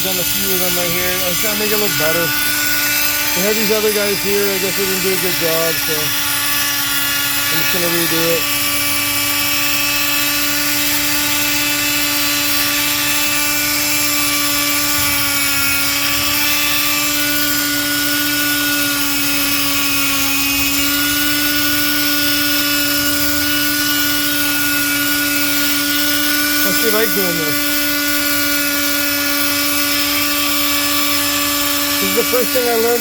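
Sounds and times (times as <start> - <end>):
power tool whining: 0.0 - 33.0.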